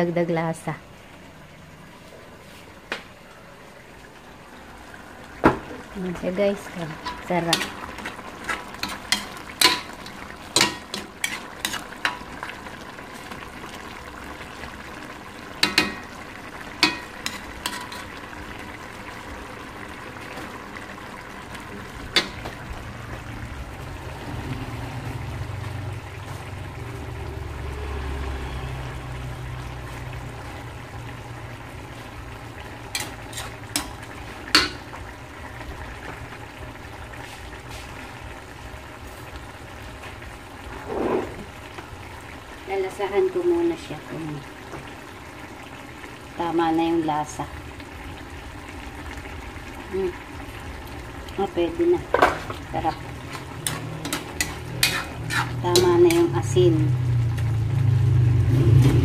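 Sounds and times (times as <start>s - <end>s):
stew bubbling: 1.1s - 59.0s.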